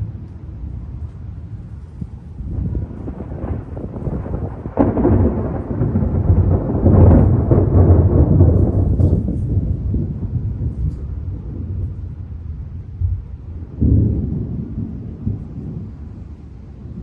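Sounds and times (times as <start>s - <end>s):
thunder crack and rumble: 0.0s - 17.0s.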